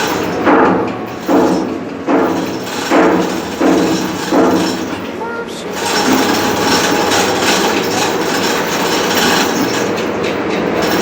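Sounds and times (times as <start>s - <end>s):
diesel engine running loudly: 0.0s - 11.0s.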